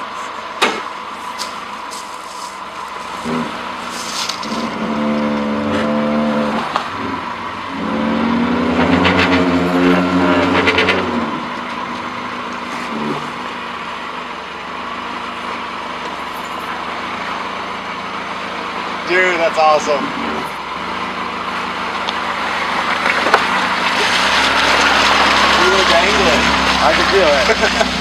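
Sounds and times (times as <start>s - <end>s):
tyres spinning on dirt: 0.0s - 28.0s
car engine revving hard: 2.8s - 28.0s.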